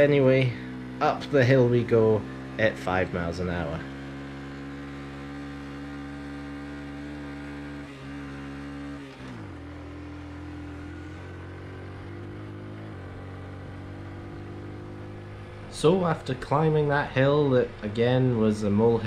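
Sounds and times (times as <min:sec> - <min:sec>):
small motorcycle engine labouring: 0:00.0 - 0:19.0.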